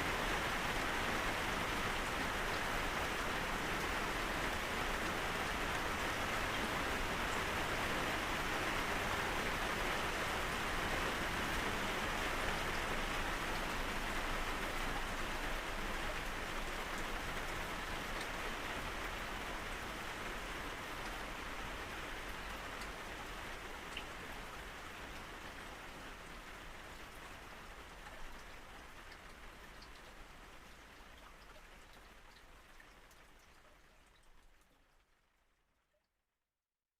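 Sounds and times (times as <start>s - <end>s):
steady rain hiss: 0.0s - 34.4s.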